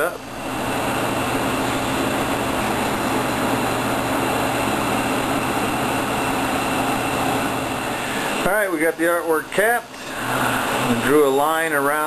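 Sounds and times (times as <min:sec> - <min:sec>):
torch flame roaring: 0:00.0 - 0:12.0.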